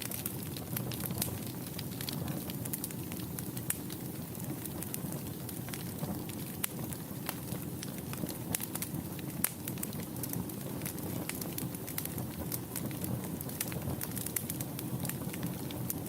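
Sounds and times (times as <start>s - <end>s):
fire crackling and popping: 0.0s - 16.0s
low rush of flames: 0.0s - 16.0s.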